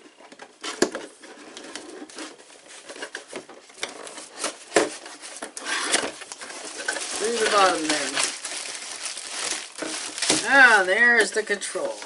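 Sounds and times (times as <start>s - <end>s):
cardboard scraping and rustling: 0.5s - 12.0s.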